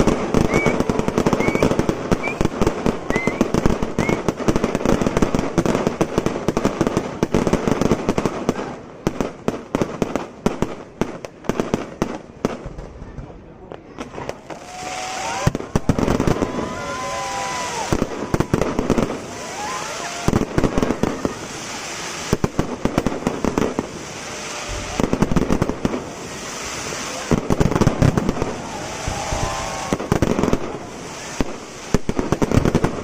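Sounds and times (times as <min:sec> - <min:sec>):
fireworks bursting with bangs: 0:00.0 - 0:33.0
fireworks crackling: 0:00.0 - 0:33.0.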